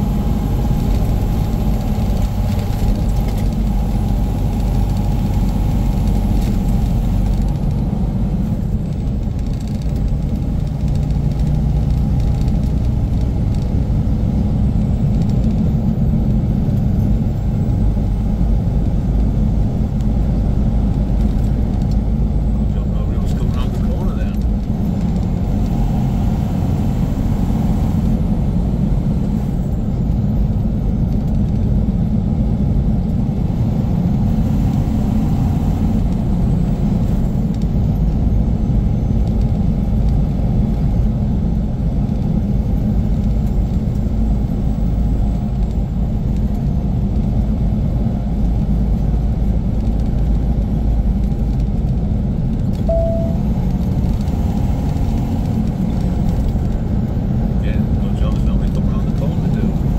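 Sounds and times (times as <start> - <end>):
diesel truck engine rumble: 0.0 - 59.9
road noise: 0.0 - 59.9.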